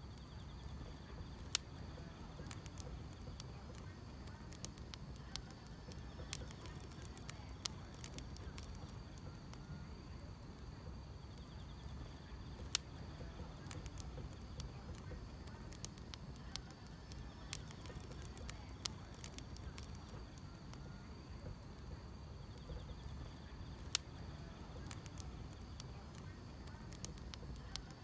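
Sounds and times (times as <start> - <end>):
insects chirping: 0.0 - 28.0
wood fire crackling: 0.0 - 28.0.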